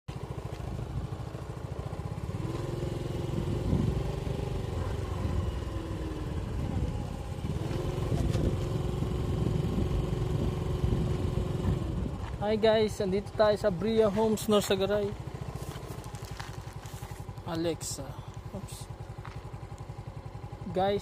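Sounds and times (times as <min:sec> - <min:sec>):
engine whine: 0:00.1 - 0:21.0
scooter engine running: 0:00.1 - 0:21.0.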